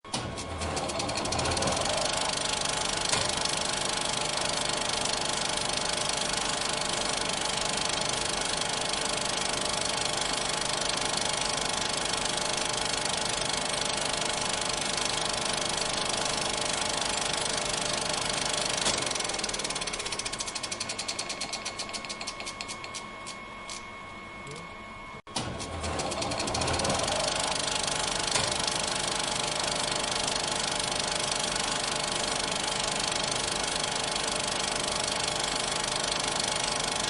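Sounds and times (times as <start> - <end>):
film projector clattering: 0.2 - 23.8, 25.4 - 37.0.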